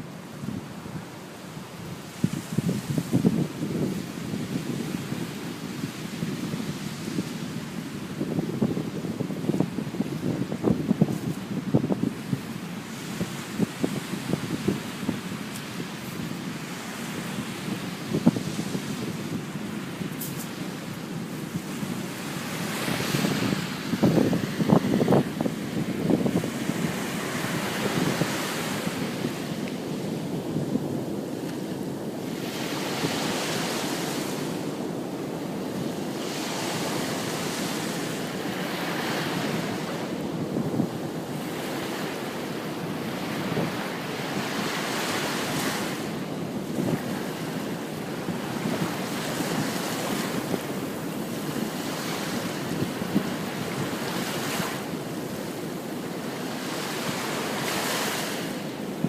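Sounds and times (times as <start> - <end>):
ocean surf breaking: 0.0 - 59.0
wind rumbling on microphone: 0.0 - 59.0.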